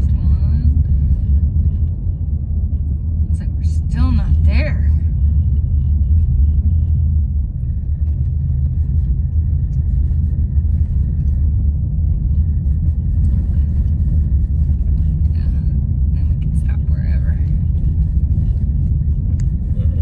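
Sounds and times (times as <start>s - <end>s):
vehicle driving rumble from inside: 0.0s - 20.0s.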